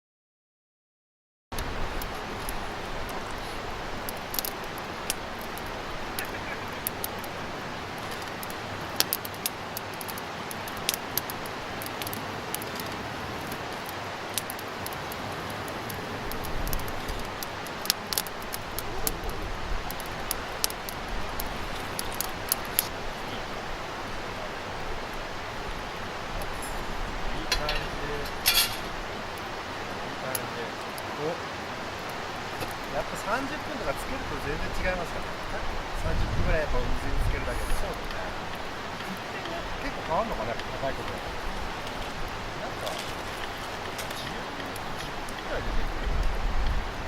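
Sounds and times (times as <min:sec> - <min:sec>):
campfire crackling and popping: 0:01.5 - 0:47.0
steady fire hiss: 0:01.5 - 0:47.0.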